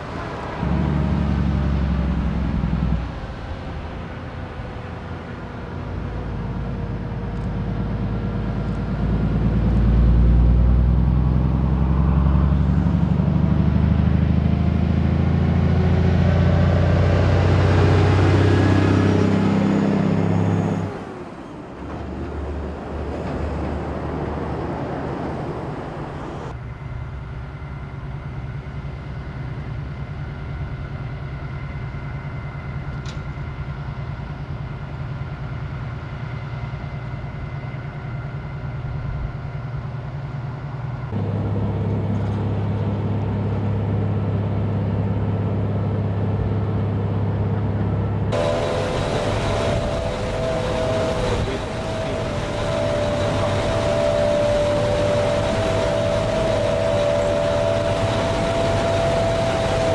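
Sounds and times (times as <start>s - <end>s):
truck diesel engine: 0.0s - 59.9s.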